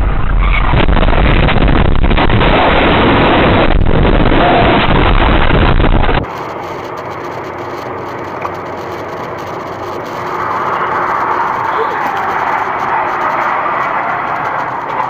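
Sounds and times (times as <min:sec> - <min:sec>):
car engine and tyres on highway: 0:00.0 - 0:15.0
loud even noise: 0:00.0 - 0:15.0.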